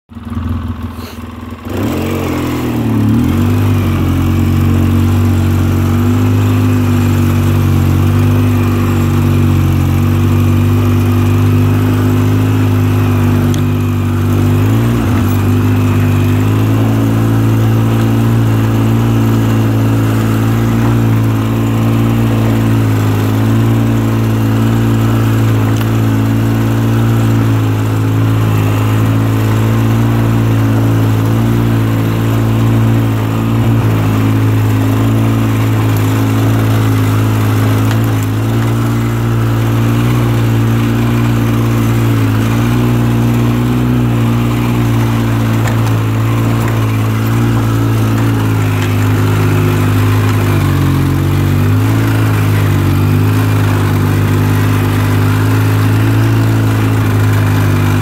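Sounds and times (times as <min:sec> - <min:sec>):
atv engine running: 0:00.1 - 0:58.0.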